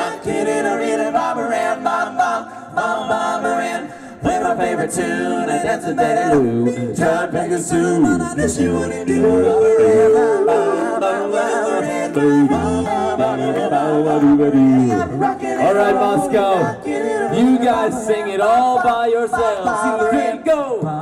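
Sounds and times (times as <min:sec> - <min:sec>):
a cappella group singing: 0:00.0 - 0:21.0.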